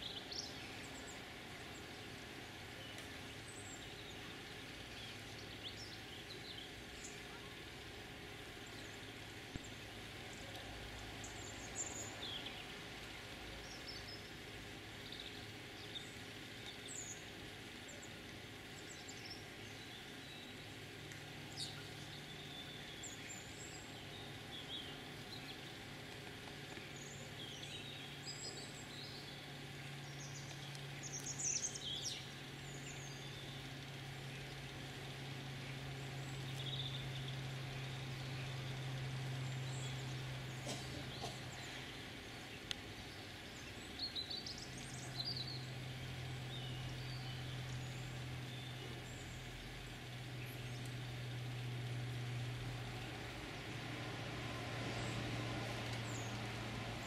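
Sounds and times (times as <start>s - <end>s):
small birds chirping: 0.0s - 57.0s
steady low hum: 0.0s - 57.0s.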